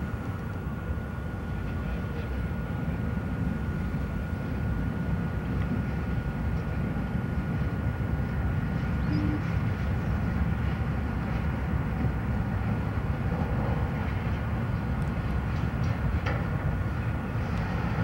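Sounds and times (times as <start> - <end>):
freight train rumbling past: 0.0 - 18.0.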